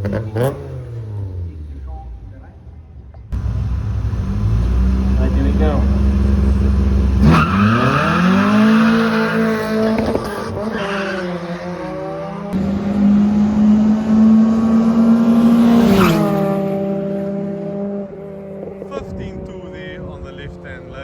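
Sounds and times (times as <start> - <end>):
racing car engines revving: 0.0 - 2.6, 3.2 - 21.0.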